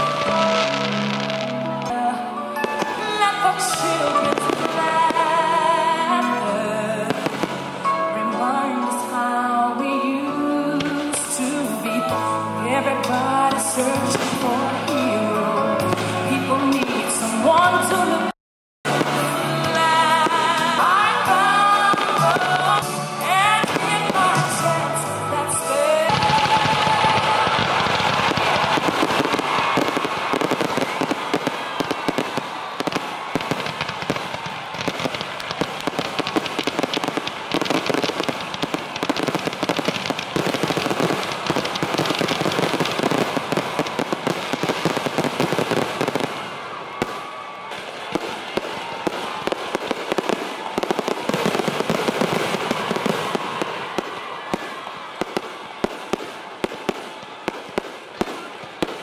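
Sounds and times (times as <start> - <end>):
firework bangs: 0.0 - 8.1, 10.8 - 12.4, 13.0 - 17.6, 18.9 - 59.0
fireworks crackling and popping: 0.0 - 8.1, 10.8 - 18.1, 18.9 - 59.0.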